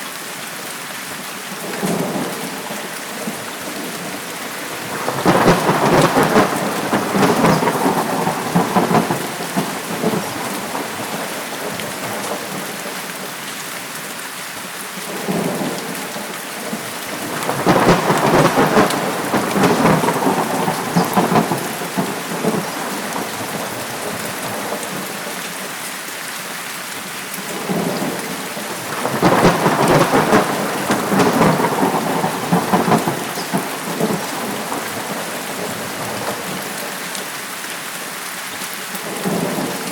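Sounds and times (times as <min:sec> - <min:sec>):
heavy rain: 0:00.0 - 0:39.9
thunder rumbling: 0:01.7 - 0:13.3, 0:15.0 - 0:25.6, 0:27.4 - 0:37.2, 0:39.0 - 0:39.9.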